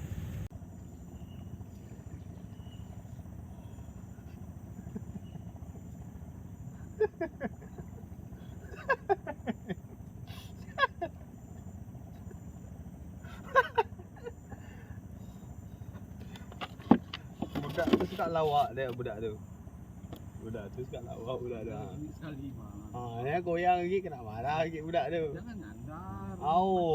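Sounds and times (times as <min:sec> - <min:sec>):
low outdoor background noise: 0:00.0 - 0:26.9.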